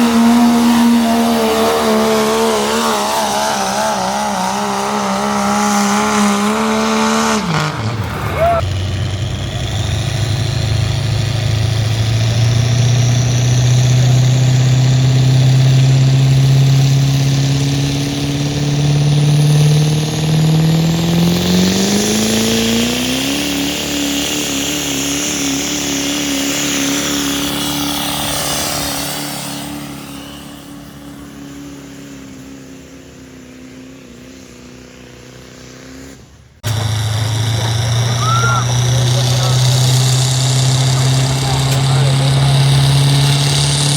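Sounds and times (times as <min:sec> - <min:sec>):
diesel truck engine under load: 0:00.0 - 0:43.9.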